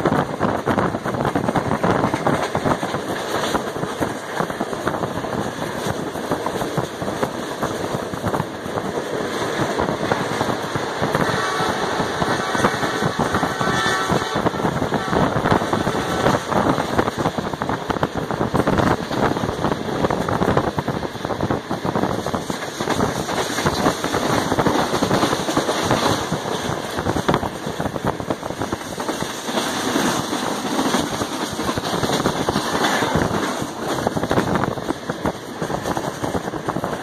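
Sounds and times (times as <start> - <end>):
train wheels clattering on rails: 0.0 - 37.0.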